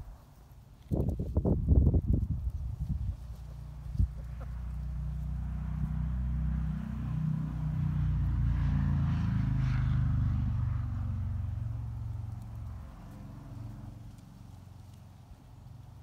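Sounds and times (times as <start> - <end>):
vehicle engine running: 2.8 - 16.0.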